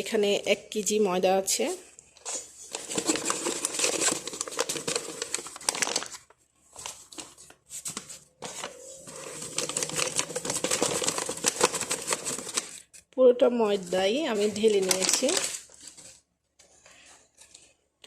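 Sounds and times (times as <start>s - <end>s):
flour packet rustling and crinkling: 2.2s - 17.8s.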